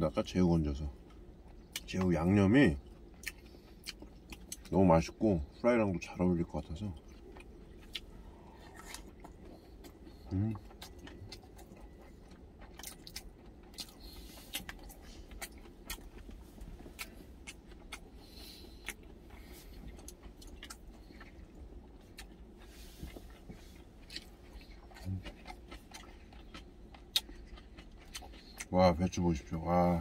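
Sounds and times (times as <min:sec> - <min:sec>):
closed-mouth hum: 0:00.0 - 0:30.0
faint low steady hum: 0:00.0 - 0:30.0
person chewing: 0:01.0 - 0:02.1, 0:02.8 - 0:05.6, 0:06.6 - 0:28.8.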